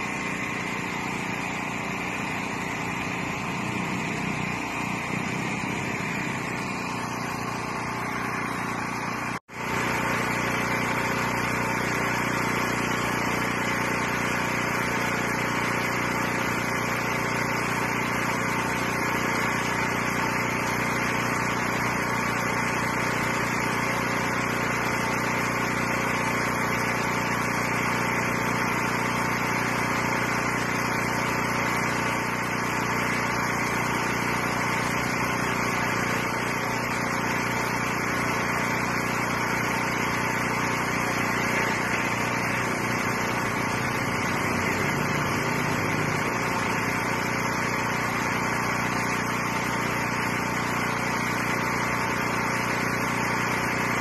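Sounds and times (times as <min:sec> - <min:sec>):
engine humming steadily: 0:00.0 - 0:54.0.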